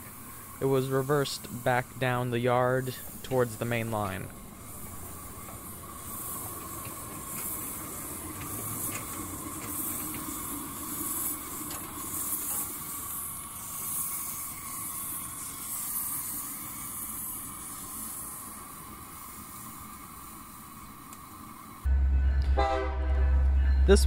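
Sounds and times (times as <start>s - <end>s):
steam hissing: 0.0s - 21.9s.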